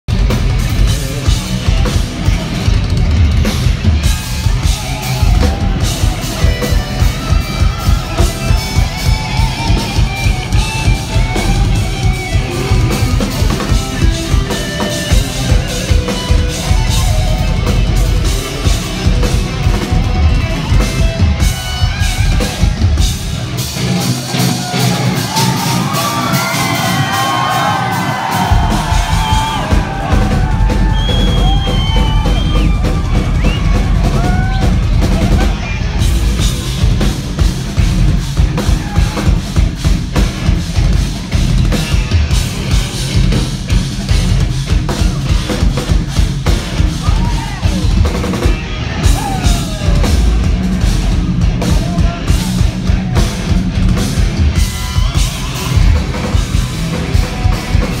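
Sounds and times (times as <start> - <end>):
metal band playing live: 0.0 - 58.0.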